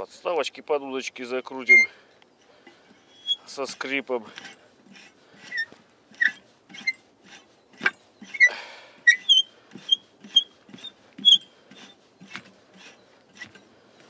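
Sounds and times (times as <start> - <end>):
screw clamp squeaking: 1.5 - 1.9, 2.9 - 14.0.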